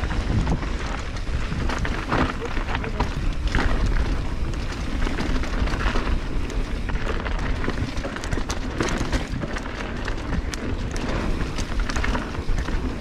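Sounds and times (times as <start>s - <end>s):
bike rattling and knocking: 0.0s - 13.0s
bike tyres crunching over dirt: 0.0s - 13.0s
wind rumbling on microphone: 0.0s - 13.0s.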